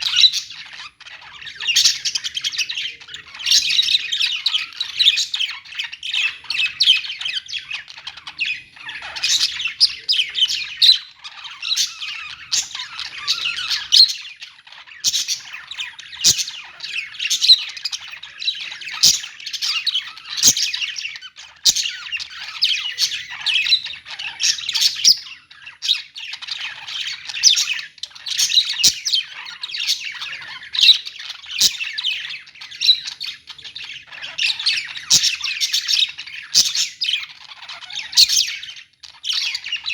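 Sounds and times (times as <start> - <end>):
small parrots chirping and squawking: 0.0 - 39.9.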